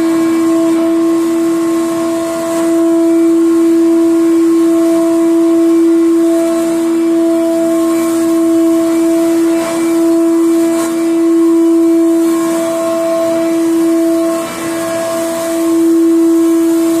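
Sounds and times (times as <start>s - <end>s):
water pumps humming: 0.0s - 17.0s.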